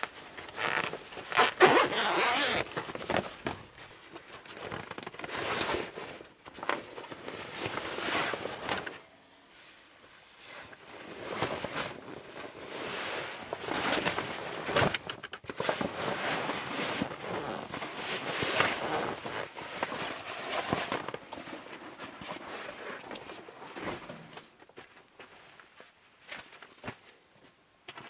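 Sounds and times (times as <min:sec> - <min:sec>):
canvas rustling and scraping: 0:00.0 - 0:27.2.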